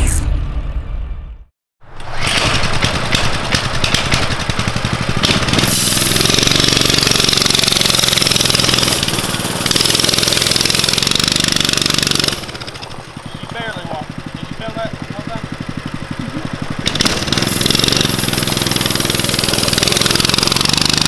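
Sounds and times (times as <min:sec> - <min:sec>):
mini bike engine under throttle: 0:02.0 - 0:21.0.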